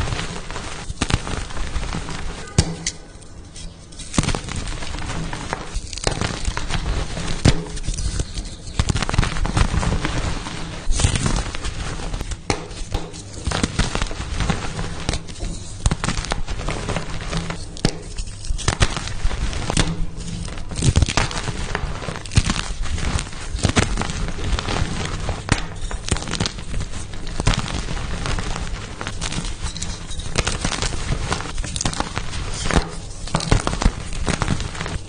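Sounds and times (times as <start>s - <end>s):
chalk crunching by hand: 0.0s - 35.0s.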